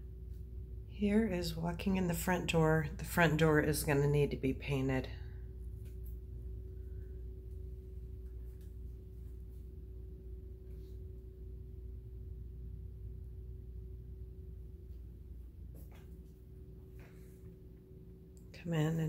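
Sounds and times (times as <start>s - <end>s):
low rumble: 0.0s - 19.0s
steady hum: 0.0s - 19.0s.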